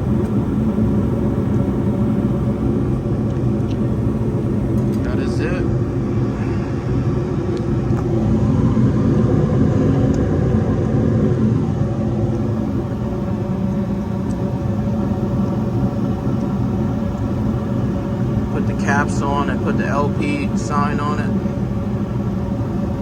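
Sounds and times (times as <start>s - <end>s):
gas furnace running: 0.0s - 23.0s.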